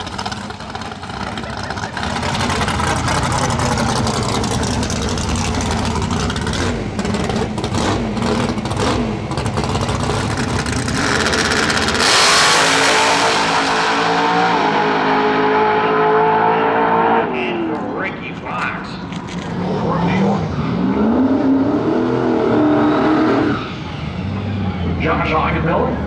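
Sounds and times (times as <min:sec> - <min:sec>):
racing car engine at full throttle: 0:00.0 - 0:26.0.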